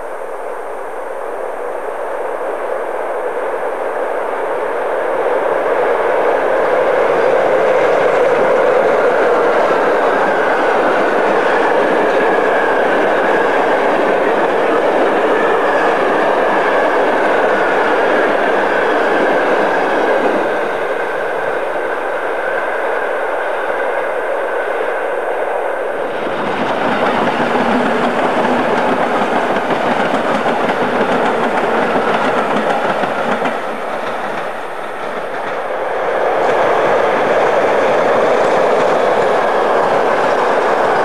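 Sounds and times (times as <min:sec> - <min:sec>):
train wheels rolling on rails: 0:02.2 - 0:41.0.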